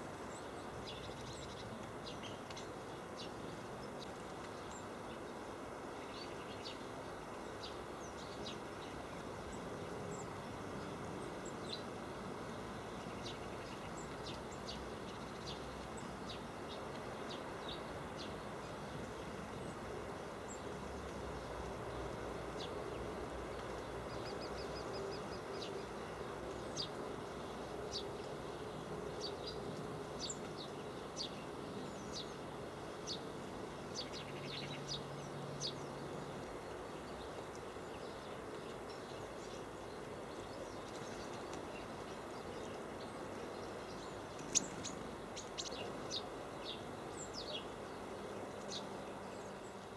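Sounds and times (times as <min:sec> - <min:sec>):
low background noise: 0:00.0 - 0:49.9.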